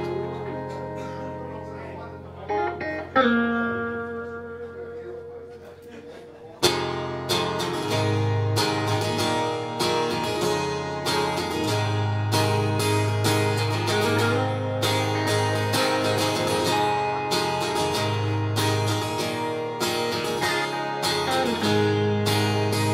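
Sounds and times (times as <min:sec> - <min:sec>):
acoustic and electric guitars: 0:00.0 - 0:22.9.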